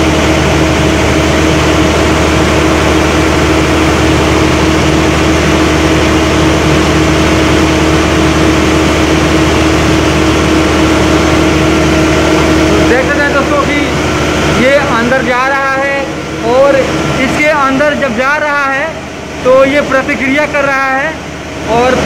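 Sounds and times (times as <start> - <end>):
refrigeration machinery droning: 0.0 - 22.0.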